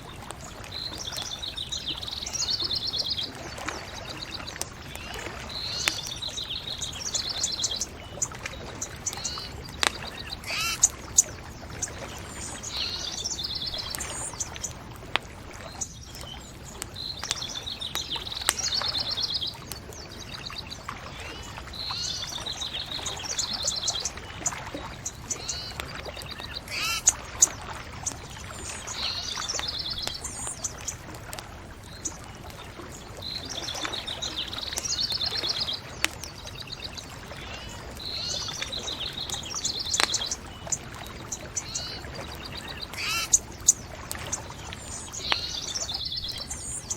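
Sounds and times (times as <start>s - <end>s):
bonfire crackling: 0.0s - 46.9s
songbird trilling: 5.0s - 14.8s, 15.7s - 31.0s, 32.9s - 46.9s.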